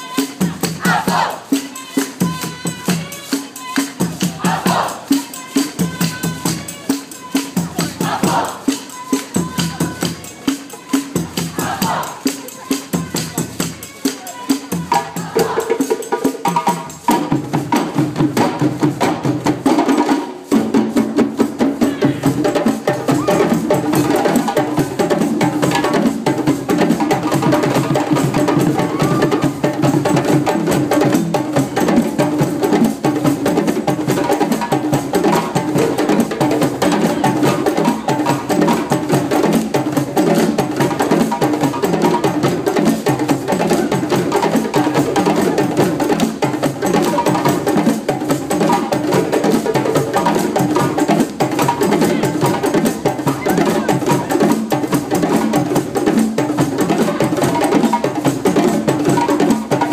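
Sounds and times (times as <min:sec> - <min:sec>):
djembe drums playing: 0:00.0 - 0:59.9.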